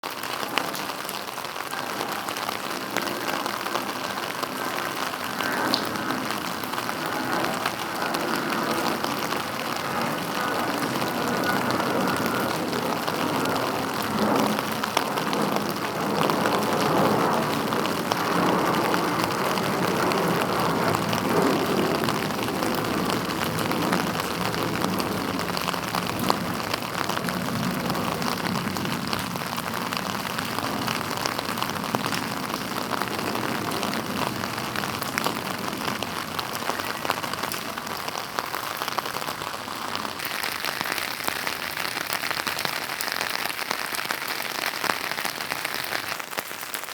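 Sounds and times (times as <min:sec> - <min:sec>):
steady rain patter: 0:00.0 - 0:46.9.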